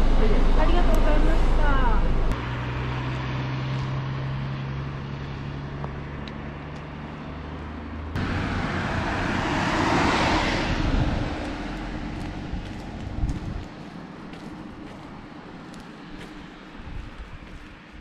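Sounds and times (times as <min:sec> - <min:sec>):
car passing with tyre rush: 0:00.0 - 0:18.0.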